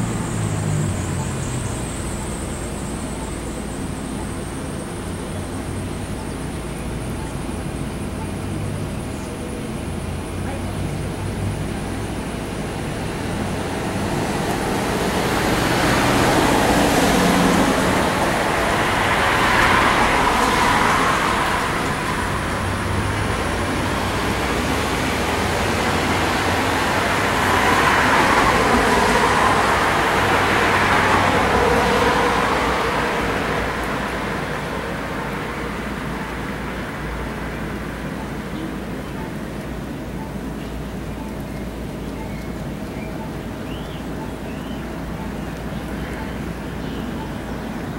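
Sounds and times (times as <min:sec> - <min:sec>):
road vehicle hiss: 0:00.0 - 0:47.9.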